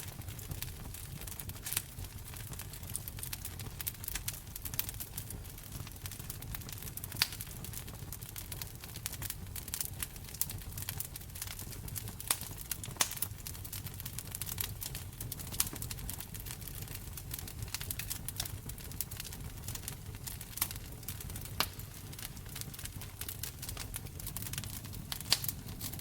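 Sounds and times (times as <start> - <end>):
low rumble of fire: 0.0 - 26.0
sharp fire pops: 0.0 - 26.0
wood fire crackling: 0.0 - 26.0.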